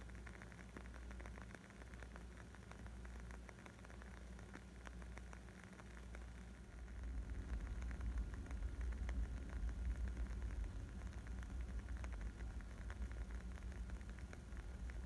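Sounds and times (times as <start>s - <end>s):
wood fire crackling: 0.2s - 15.0s.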